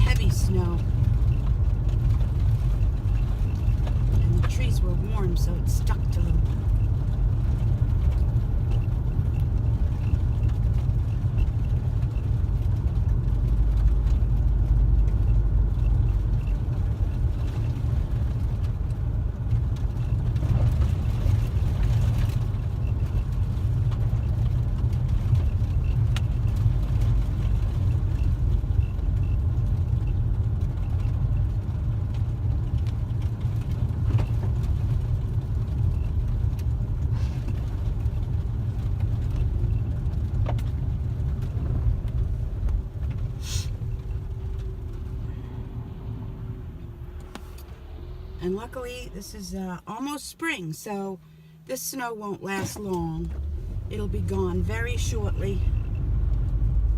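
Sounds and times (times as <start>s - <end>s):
car engine rumble: 0.0s - 56.9s
tyres on snowy road: 0.0s - 56.9s.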